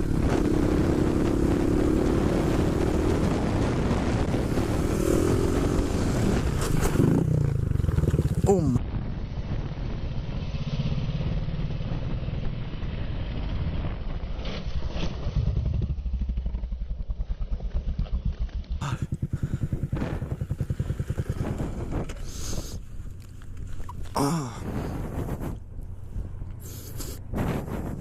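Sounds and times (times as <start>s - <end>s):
motorcycle engine running: 0.0s - 14.4s, 15.2s - 28.0s.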